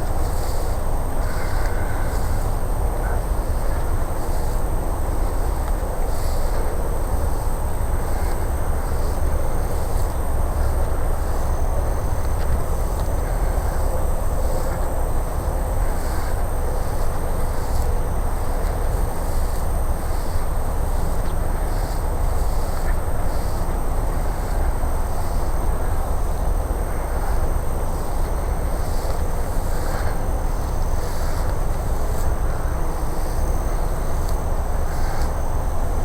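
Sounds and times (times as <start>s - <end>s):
faint high whine: 0.0s - 36.0s.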